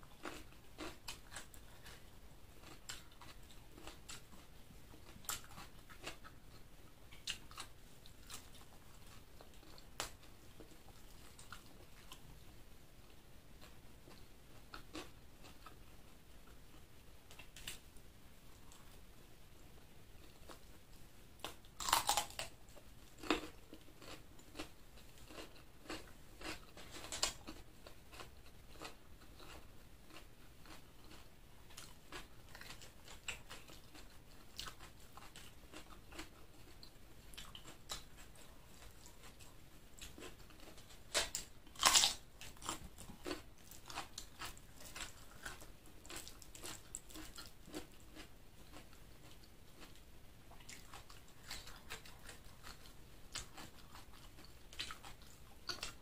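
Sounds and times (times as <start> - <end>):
chewing with crunching bites: 0.0 - 12.3, 13.6 - 17.8, 21.4 - 56.0.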